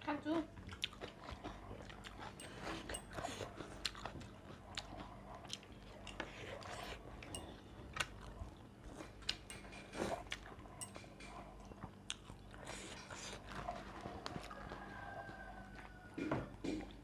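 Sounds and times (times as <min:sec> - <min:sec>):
person chewing crunchy food: 0:00.4 - 0:17.0.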